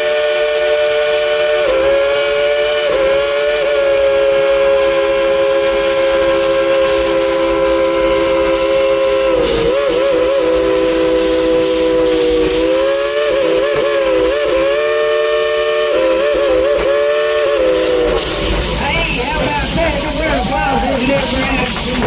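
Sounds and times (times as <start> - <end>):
steam locomotive whistle chord: 0.0 - 18.6.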